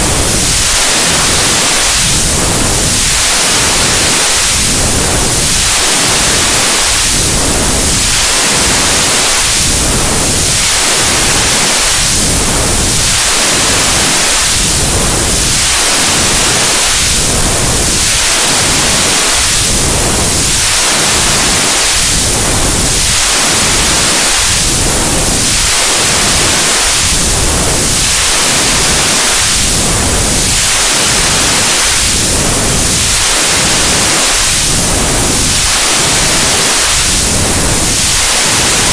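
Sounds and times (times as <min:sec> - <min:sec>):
electronic white noise whooshing: 0:00.0 - 0:38.9.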